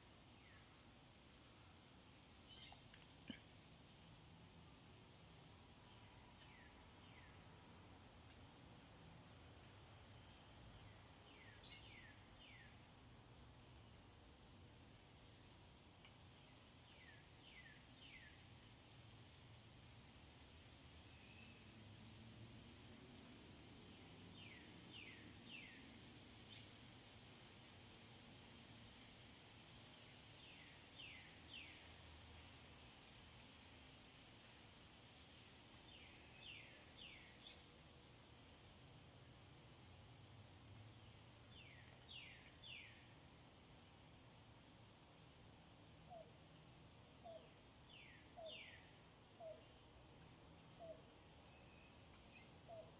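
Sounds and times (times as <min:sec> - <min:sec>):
light background hiss: 0:00.0 - 0:52.9.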